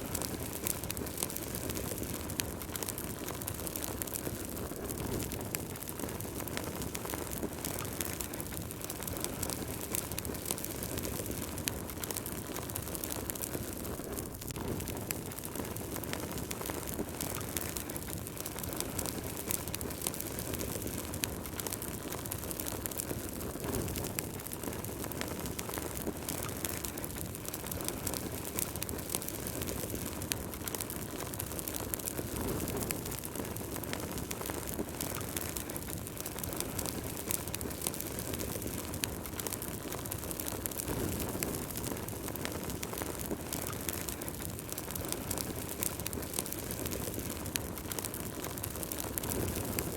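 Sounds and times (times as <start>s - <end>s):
fire crackling and popping: 0.0s - 49.9s
fire flames rushing: 0.0s - 49.9s.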